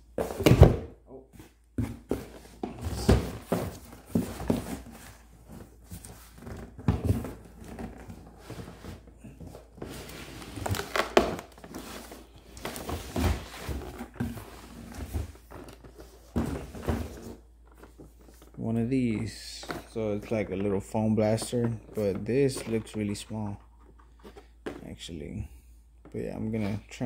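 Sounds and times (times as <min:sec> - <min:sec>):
cardboard flaps scraping and rustling: 0:01.4 - 0:24.8.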